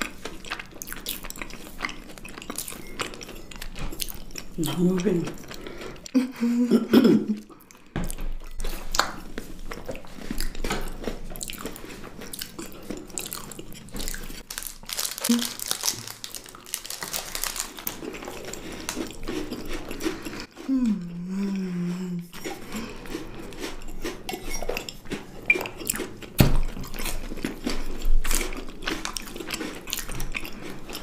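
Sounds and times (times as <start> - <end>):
chewing and crunching snacks: 0.0 - 6.2, 7.3 - 31.0.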